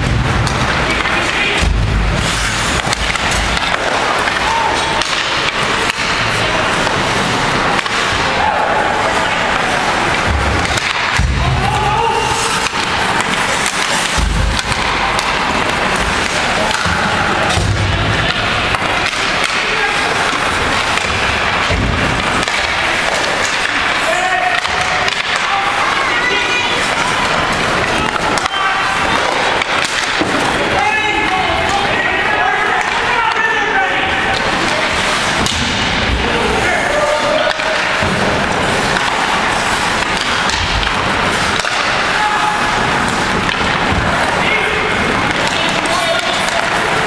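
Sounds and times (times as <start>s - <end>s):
skates scraping on ice: 0.0s - 47.0s
sticks hitting puck: 0.0s - 47.0s.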